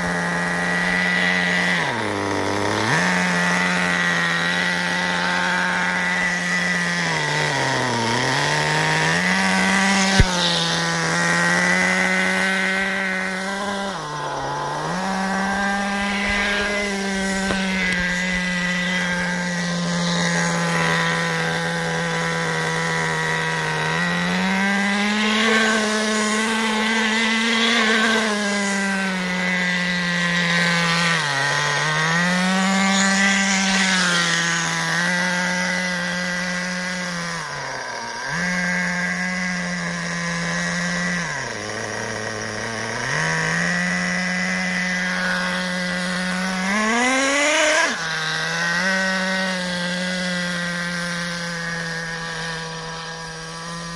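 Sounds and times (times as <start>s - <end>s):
small nitro engine running: 0.0s - 53.9s.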